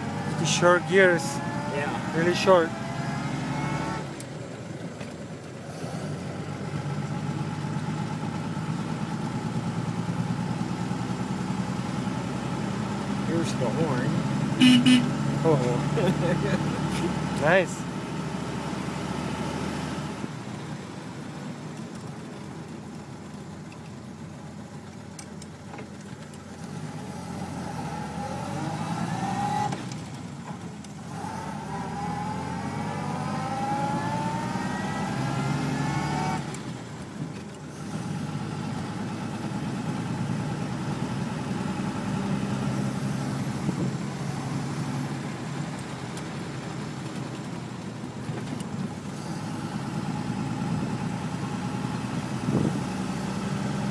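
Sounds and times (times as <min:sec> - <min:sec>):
car engine accelerating: 0:00.0 - 0:24.0, 0:24.6 - 0:53.9
road and wind noise: 0:00.0 - 0:53.9.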